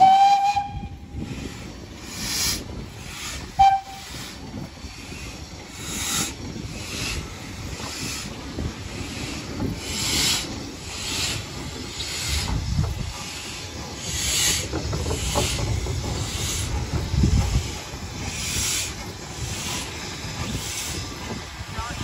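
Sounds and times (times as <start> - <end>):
steam locomotive chuffing: 0.0 - 22.0
train rumbling: 0.0 - 22.0.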